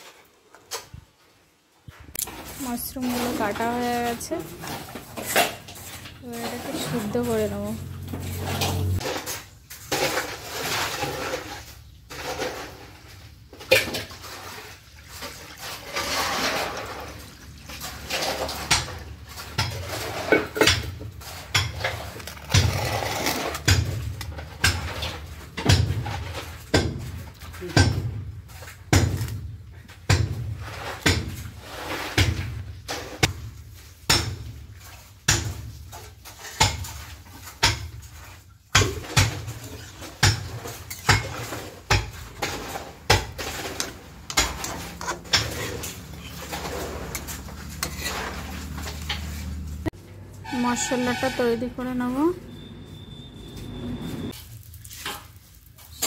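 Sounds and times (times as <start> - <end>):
water sloshing in wok: 2.2 - 51.3.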